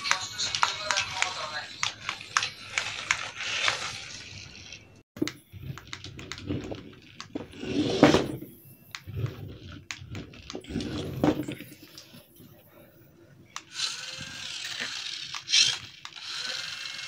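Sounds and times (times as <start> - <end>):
remote-control toy car driving: 0.0 - 12.3, 13.6 - 17.0.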